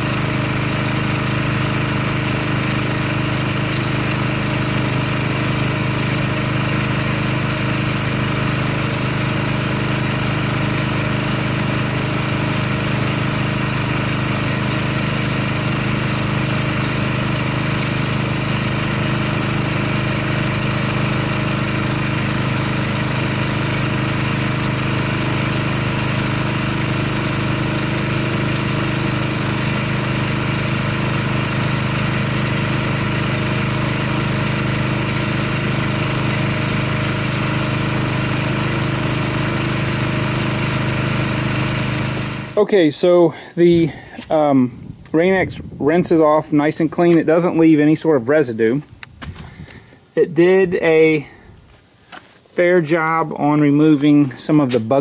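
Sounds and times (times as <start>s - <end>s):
pressure washer spraying water: 0.0s - 48.1s, 52.8s - 55.0s.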